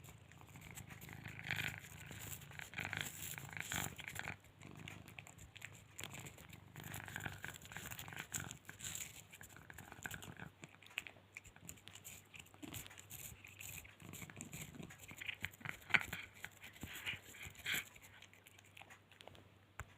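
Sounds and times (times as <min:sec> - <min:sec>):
cat purring: 0:00.0 - 0:19.6.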